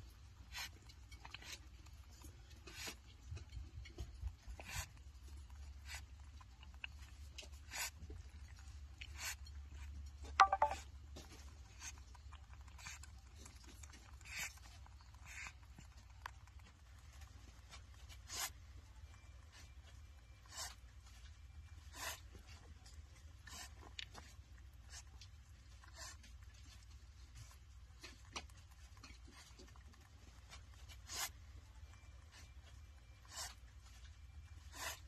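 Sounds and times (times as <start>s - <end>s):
animal chewing and smacking: 0.0s - 35.0s.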